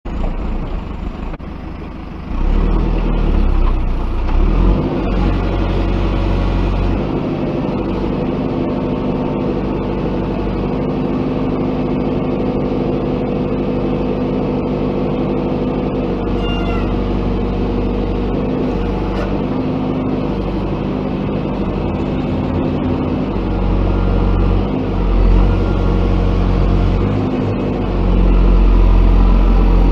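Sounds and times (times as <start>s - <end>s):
diesel engine under load: 0.0s - 29.9s.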